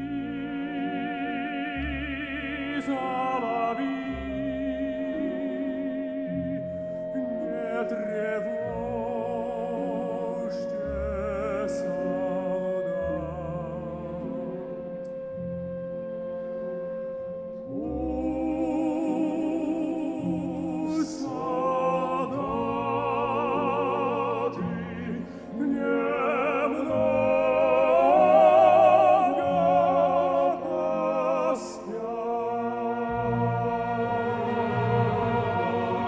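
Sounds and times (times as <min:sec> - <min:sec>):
man singing opera: 0:00.0 - 0:15.0, 0:17.6 - 0:36.0
symphony orchestra: 0:00.0 - 0:36.0.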